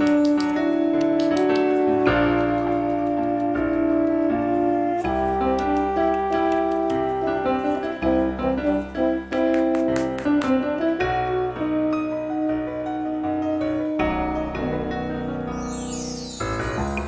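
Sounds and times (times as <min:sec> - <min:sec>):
background piano music: 0:00.0 - 0:17.0.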